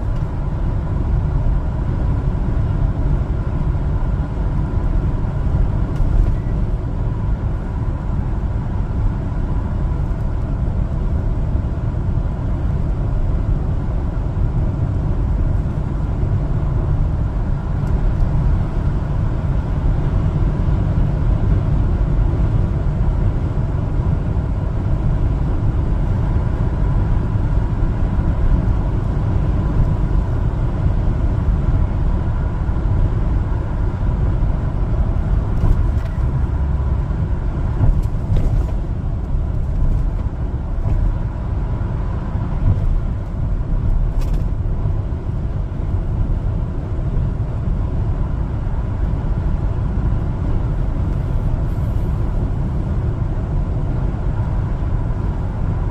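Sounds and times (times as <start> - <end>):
truck engine and road noise: 0.0 - 55.9.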